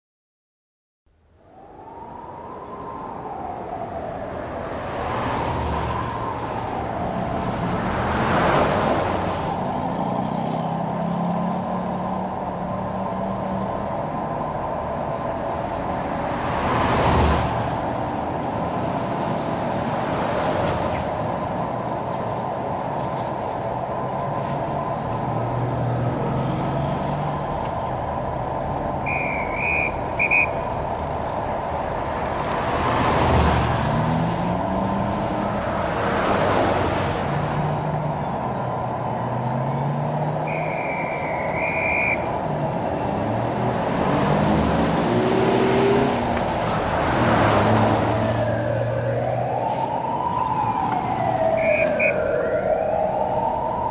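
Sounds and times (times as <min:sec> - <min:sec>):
street traffic: 0:01.1 - 0:53.9
vehicles passing: 0:01.1 - 0:53.9
vehicle accelerating: 0:04.6 - 0:21.9, 0:23.0 - 0:52.0.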